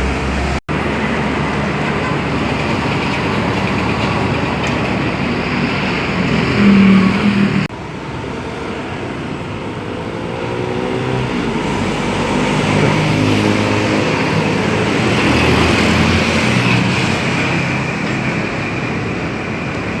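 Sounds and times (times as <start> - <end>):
heavy trucks driving past: 0.0 - 20.0.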